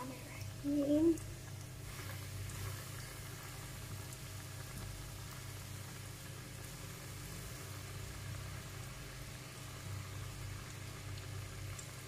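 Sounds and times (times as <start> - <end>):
chicken deep-frying in oil: 0.0 - 12.0
low steady hum: 0.0 - 12.0.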